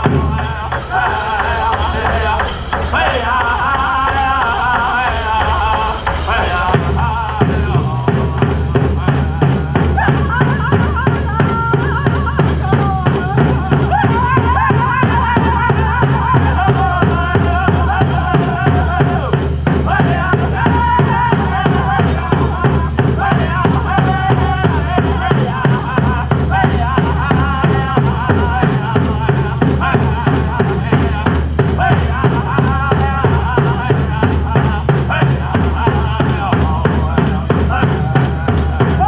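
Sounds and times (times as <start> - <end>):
big drum steady beat: 0.0 - 39.0
group singing in wavering voices: 0.0 - 39.0.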